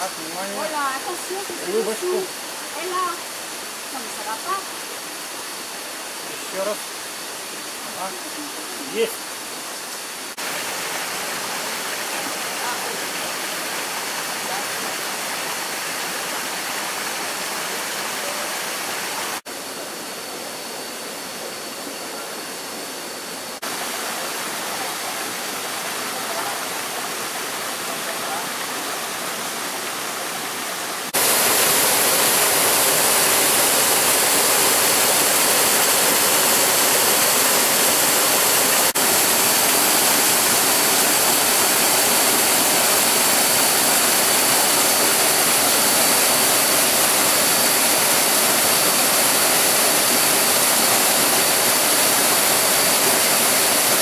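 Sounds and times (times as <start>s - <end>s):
stream and waterfall rushing: 0.0s - 54.0s.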